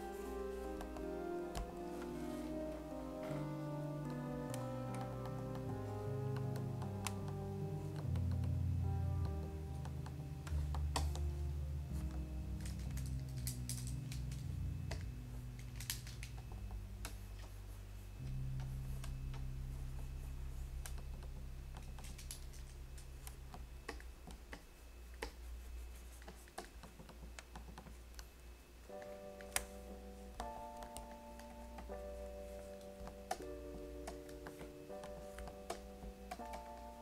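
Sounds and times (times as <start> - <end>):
soft background music: 0.0 - 37.0.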